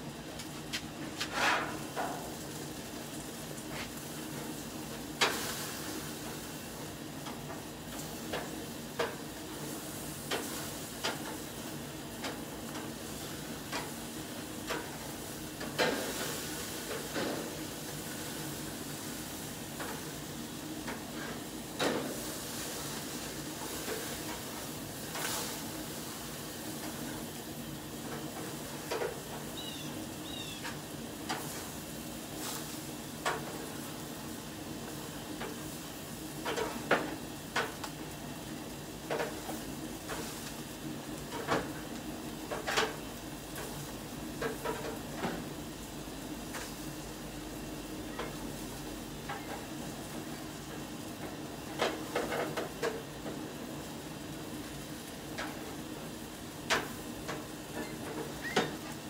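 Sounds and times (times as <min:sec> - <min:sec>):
burgers sizzling on grill: 0:00.0 - 0:59.0.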